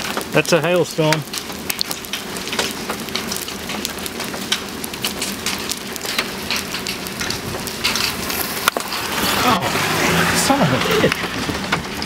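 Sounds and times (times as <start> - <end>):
hail ticking on car roof: 0.0 - 12.0
steady rain hiss: 0.0 - 12.0.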